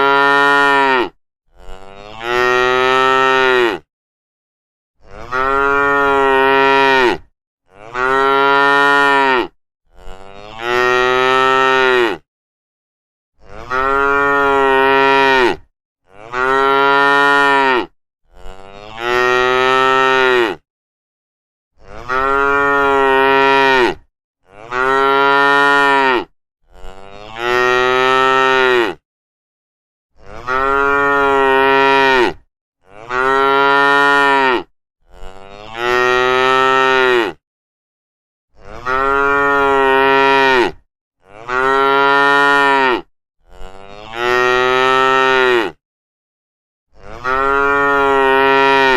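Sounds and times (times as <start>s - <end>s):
cattle mooing: 0.0s - 3.9s, 5.0s - 12.2s, 13.4s - 20.6s, 21.9s - 29.0s, 30.2s - 37.4s, 38.6s - 45.8s, 47.0s - 48.9s.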